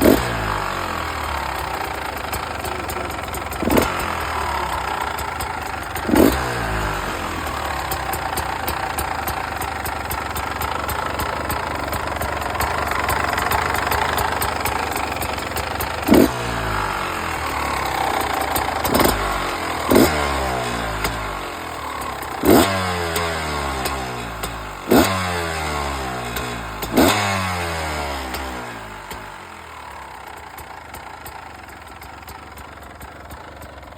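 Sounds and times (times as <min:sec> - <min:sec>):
engine rattling: 0:00.0 - 0:33.9
two-stroke engine idling: 0:00.0 - 0:33.9.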